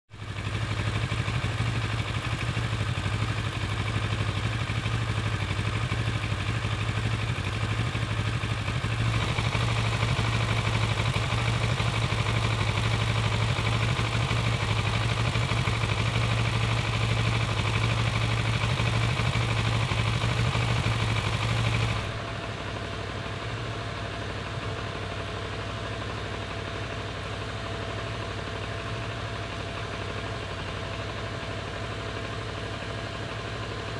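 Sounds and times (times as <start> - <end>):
motorcycle engine idling unevenly: 0.1 - 33.9.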